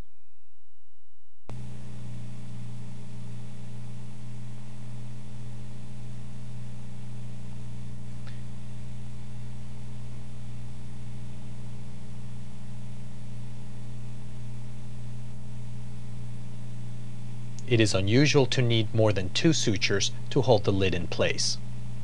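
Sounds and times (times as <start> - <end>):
low electrical hum with hiss: 1.5 - 22.0.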